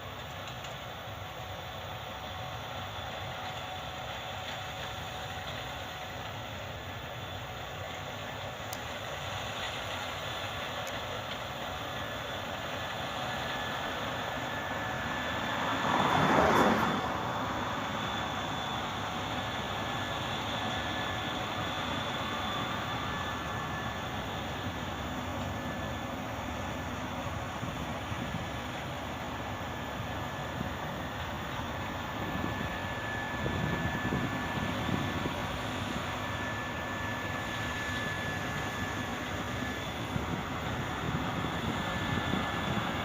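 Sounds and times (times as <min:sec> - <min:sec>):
combine harvester droning: 0:00.0 - 0:43.0
faint whining tones: 0:00.0 - 0:43.0.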